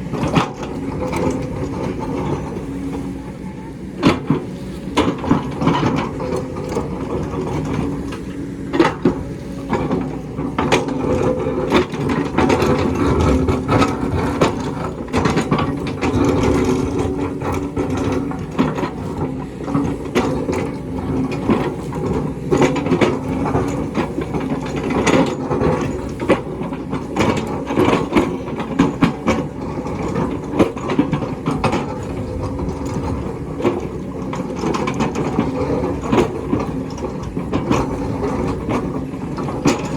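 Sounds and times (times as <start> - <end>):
bucket and tracks clanking: 0.0 - 39.9
excavator diesel engine running: 0.0 - 39.9.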